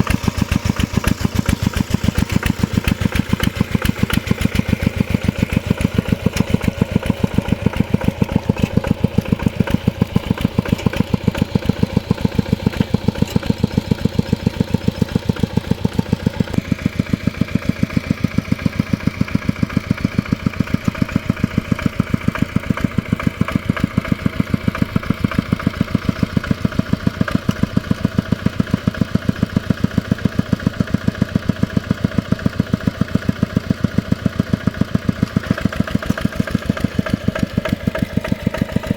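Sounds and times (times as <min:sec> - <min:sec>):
mini tractor engine running: 0:00.0 - 0:38.9.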